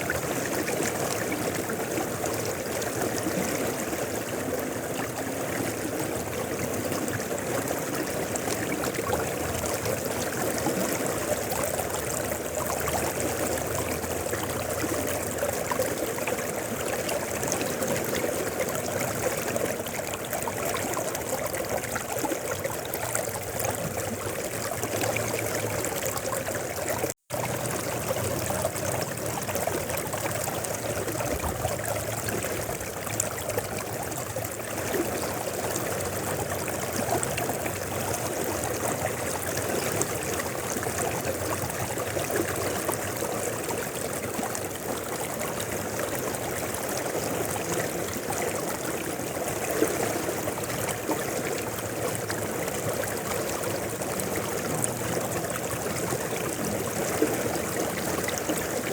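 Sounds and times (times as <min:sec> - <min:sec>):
river water rushing over stones: 0:00.0 - 0:58.9.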